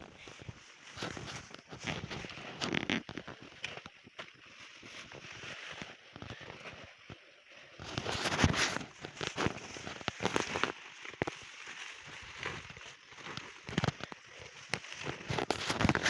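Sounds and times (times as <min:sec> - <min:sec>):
rustling and crackling leaves: 0:00.0 - 0:16.0.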